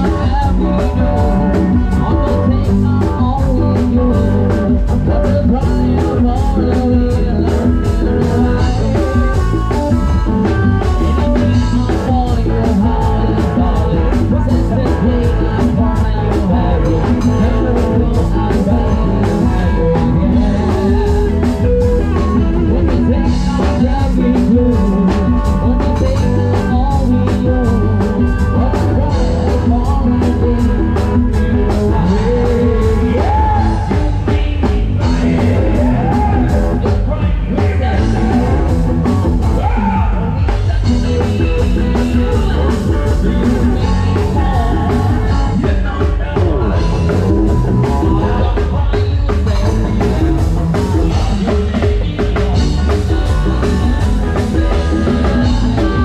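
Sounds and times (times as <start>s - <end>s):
drums fast beat: 0.0s - 56.0s
electric guitar: 0.0s - 56.0s
keyboards: 0.0s - 56.0s.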